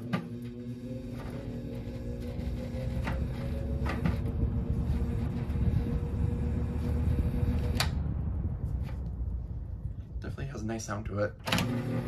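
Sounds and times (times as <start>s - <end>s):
fan air noise: 0.0s - 12.0s
fan motor hum: 0.0s - 12.0s.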